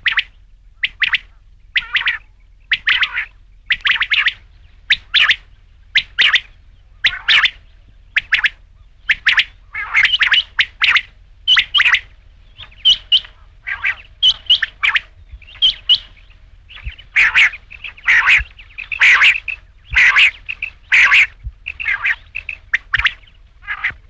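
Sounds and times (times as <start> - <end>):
quail calling: 0.0 - 24.0.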